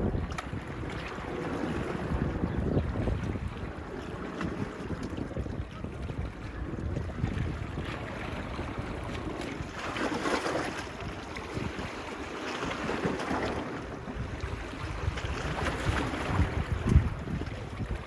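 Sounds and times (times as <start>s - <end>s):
small waves washing onto beach: 0.0s - 18.0s
wind rumbling on microphone: 0.0s - 18.0s.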